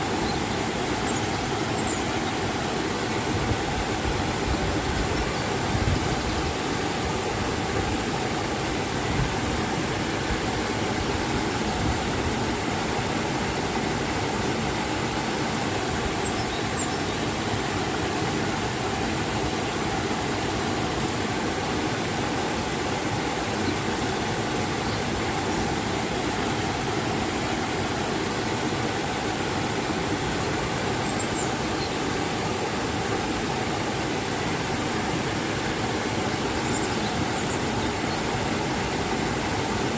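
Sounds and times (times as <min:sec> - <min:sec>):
water rushing and falling: 0:00.0 - 0:39.9.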